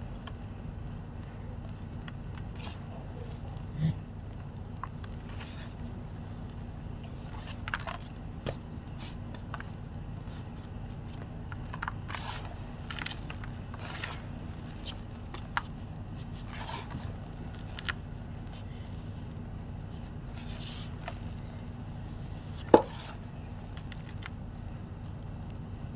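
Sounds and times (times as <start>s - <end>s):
steady low hum: 0.0s - 25.9s
chalk crunching: 4.8s - 25.7s.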